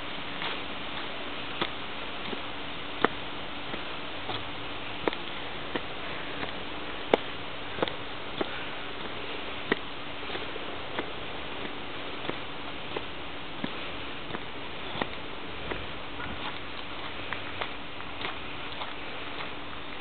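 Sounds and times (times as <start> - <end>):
faint hum: 0.0 - 20.0
footsteps on stone steps: 0.0 - 20.0
steady hiss: 0.0 - 20.0.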